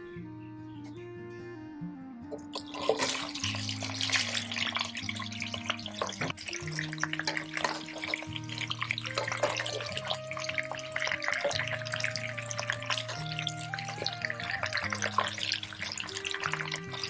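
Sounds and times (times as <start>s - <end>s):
background music with held notes: 0.0s - 17.0s
tap water running and splashing: 2.4s - 17.0s.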